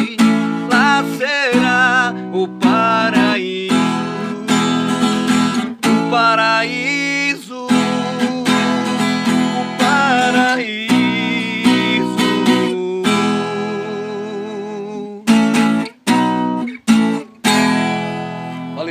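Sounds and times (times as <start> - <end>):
person singing: 0.0 - 15.6
strummed acoustic guitar: 0.0 - 18.9.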